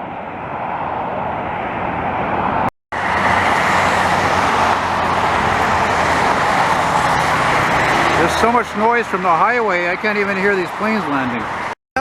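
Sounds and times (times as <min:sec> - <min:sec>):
highway traffic roar: 0:00.0 - 0:11.8.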